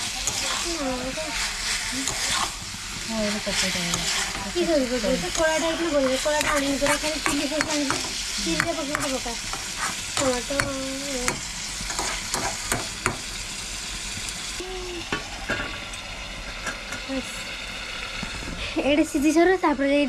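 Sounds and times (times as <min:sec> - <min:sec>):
curry sizzling in a pan: 0:00.0 - 0:20.0.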